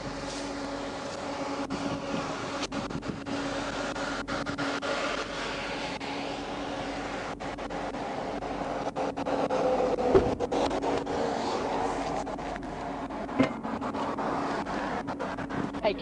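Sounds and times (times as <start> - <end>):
idling vehicle engines hum: 0.0 - 16.0
road noise: 0.0 - 16.0.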